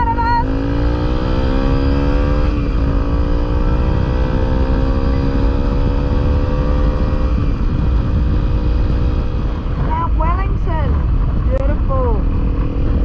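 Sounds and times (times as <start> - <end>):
motorcycle engine accelerating: 0.0 - 13.0
wind rumble on microphone: 0.0 - 13.0.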